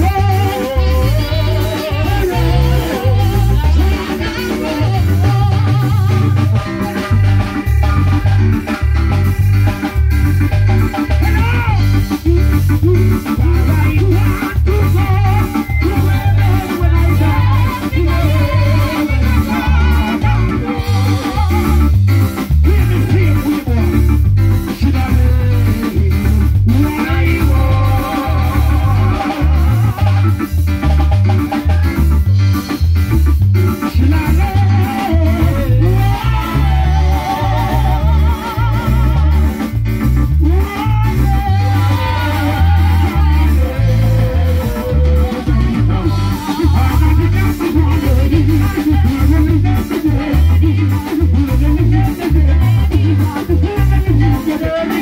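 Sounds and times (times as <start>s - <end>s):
people singing: 0.0s - 22.0s, 24.7s - 30.4s, 33.8s - 39.8s, 40.4s - 55.0s
bass guitar: 0.0s - 55.0s
drum kit: 0.0s - 55.0s.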